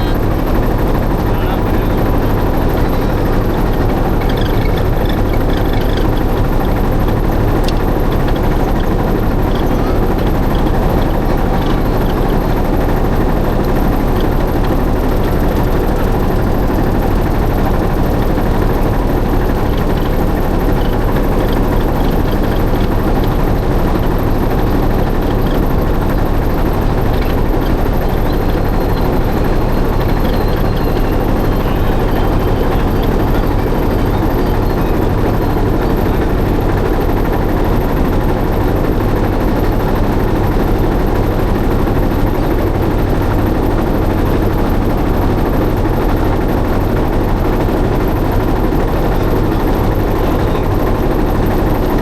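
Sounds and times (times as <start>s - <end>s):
boat motor running: 0.0s - 52.0s.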